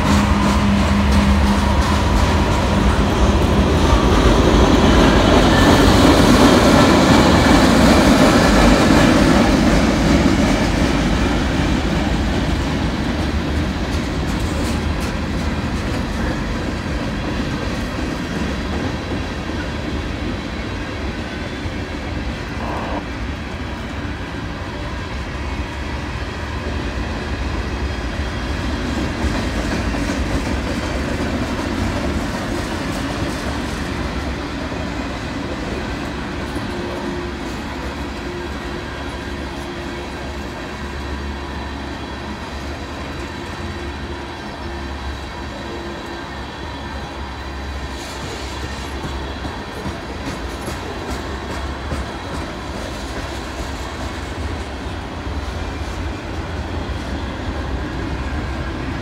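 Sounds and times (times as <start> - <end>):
freight train rolling: 0.0 - 59.0.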